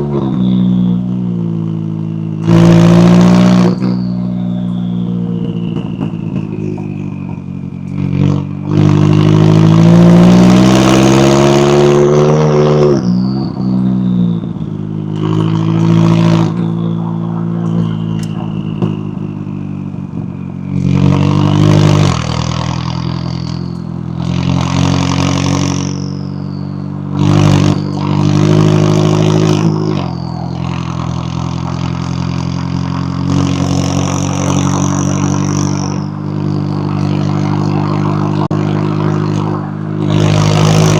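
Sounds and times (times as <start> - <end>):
car engine accelerating hard: 0.0 - 40.9
high turbo whine: 0.0 - 40.9.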